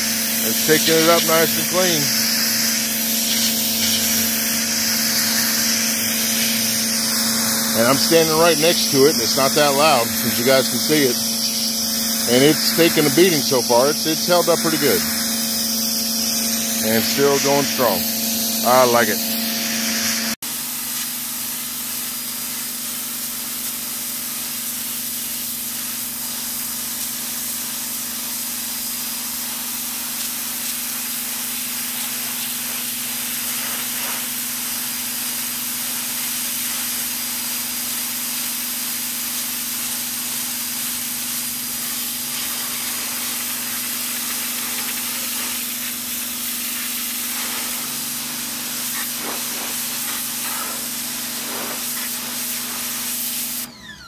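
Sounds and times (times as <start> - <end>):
pressure washer spraying concrete: 0.0 - 53.7
pressure washer low hum: 0.0 - 54.0.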